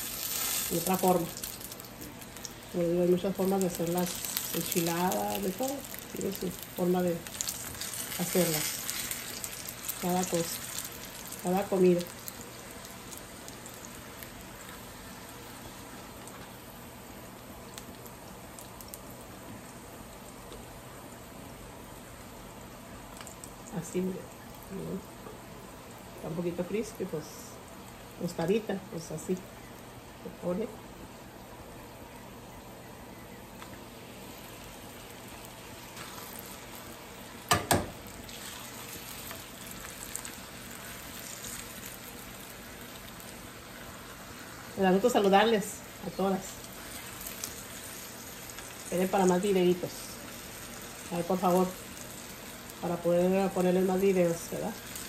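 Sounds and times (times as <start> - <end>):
faint crackles: 0.0 - 21.2, 23.0 - 30.3, 31.6 - 55.0
tortillas sizzling in oil: 0.0 - 55.0.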